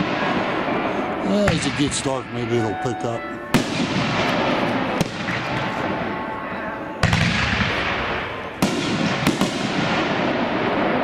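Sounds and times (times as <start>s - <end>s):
fireworks booms and bangs: 0.0s - 2.5s, 3.5s - 11.0s.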